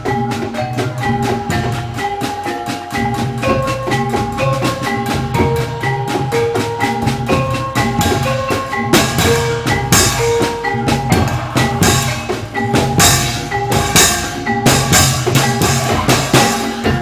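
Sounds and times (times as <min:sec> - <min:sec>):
drums beating fast pattern: 0:00.0 - 0:17.0
tuned metal percussion notes: 0:00.0 - 0:17.0.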